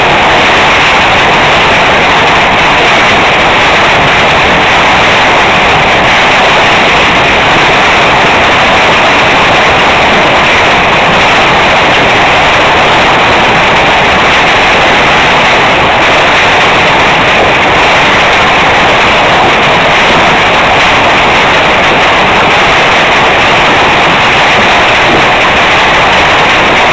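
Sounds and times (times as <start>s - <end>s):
hail clattering on patio: 0.0s - 26.9s.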